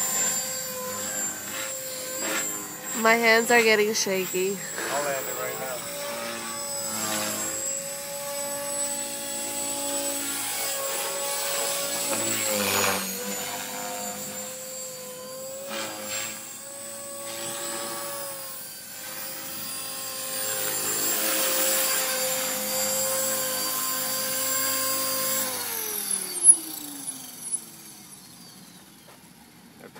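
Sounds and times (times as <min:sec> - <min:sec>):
rotor blade whoosh: 0:00.0 - 0:28.0
rc helicopter motor whine: 0:00.0 - 0:29.9.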